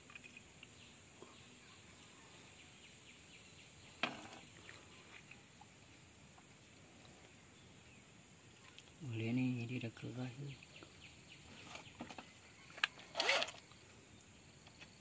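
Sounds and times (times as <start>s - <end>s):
faint insect chirps: 0.0s - 15.0s.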